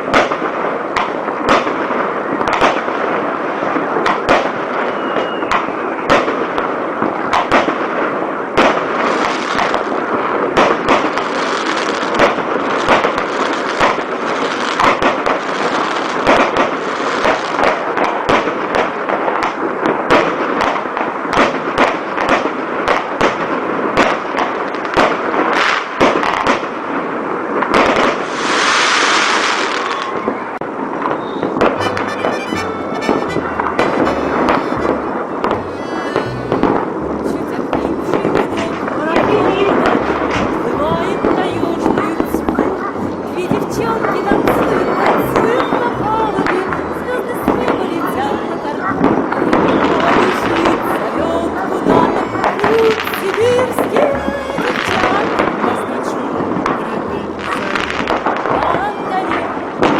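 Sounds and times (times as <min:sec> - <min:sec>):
fireworks crackling: 0:00.0 - 0:30.1, 0:31.5 - 0:59.9.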